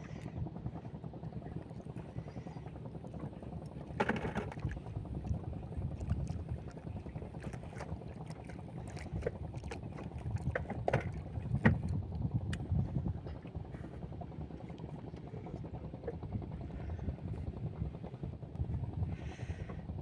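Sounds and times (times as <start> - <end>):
water noise around boat: 0.0 - 20.0
wind: 0.0 - 20.0.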